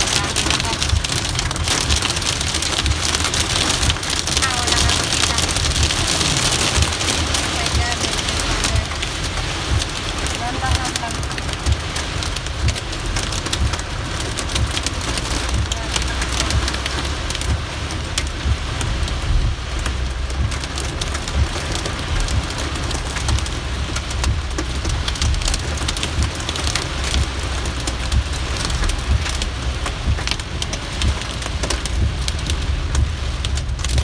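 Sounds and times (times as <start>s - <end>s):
heavy rain on car: 0.0s - 34.0s
wind and road noise: 0.0s - 34.0s.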